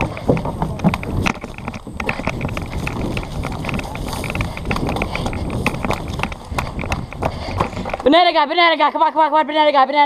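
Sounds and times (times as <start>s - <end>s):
clicks and rustling of steps: 0.0s - 8.4s
wind buffeting the microphone: 0.0s - 8.6s.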